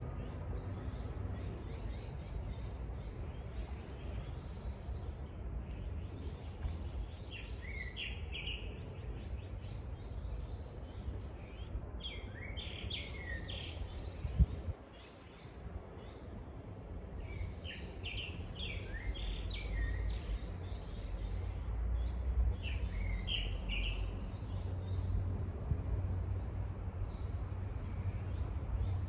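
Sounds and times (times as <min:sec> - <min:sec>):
small birds chirping: 0:00.0 - 0:29.0
wind rumbling on microphone: 0:00.0 - 0:29.0.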